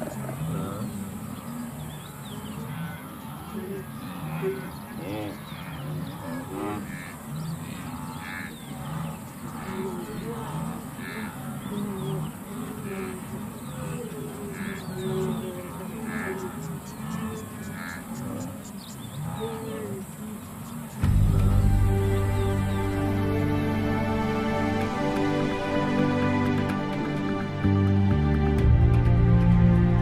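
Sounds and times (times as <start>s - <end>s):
wild birds calling: 0.0s - 27.6s
low wavering bird notes: 0.0s - 30.0s.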